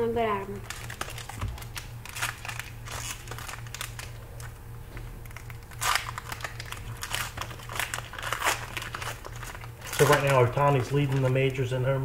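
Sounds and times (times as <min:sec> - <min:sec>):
foil wrapper crinkling and tearing: 0:00.6 - 0:04.6, 0:05.2 - 0:11.7.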